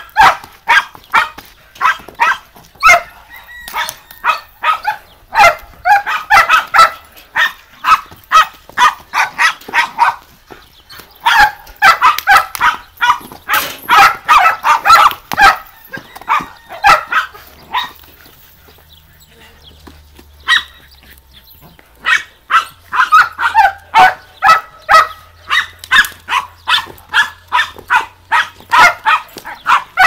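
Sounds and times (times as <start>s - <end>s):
dog barking: 0.1s - 10.3s, 11.2s - 18.0s, 20.4s - 20.8s, 22.0s - 30.0s.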